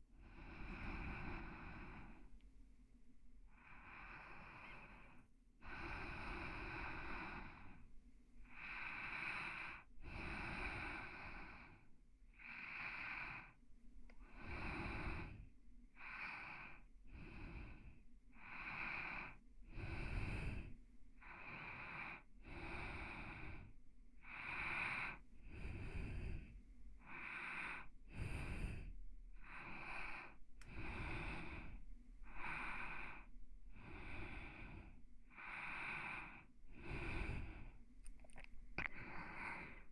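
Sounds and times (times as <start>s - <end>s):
person breathing softly: 0.0s - 39.9s.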